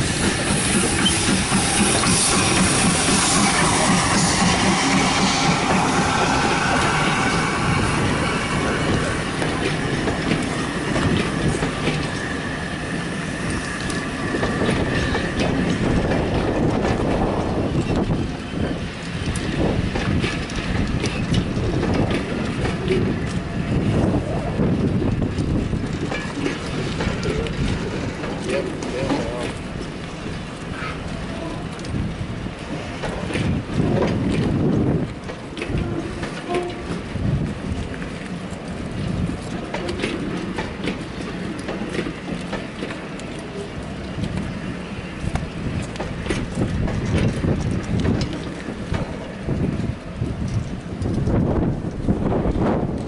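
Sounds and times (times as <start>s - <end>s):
train wheels rumbling on rails: 0.0s - 53.0s
wheels clicking and knocking: 0.0s - 53.0s.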